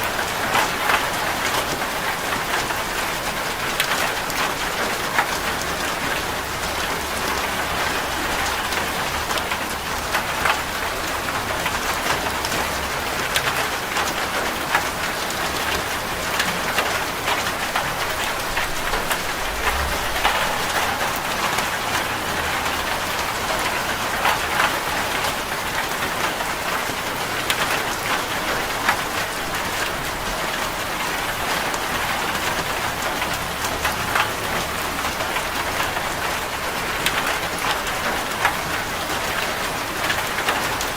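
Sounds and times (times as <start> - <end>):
rain on a metal roof: 0.0 - 40.9
raindrops ticking on metal: 0.0 - 40.9.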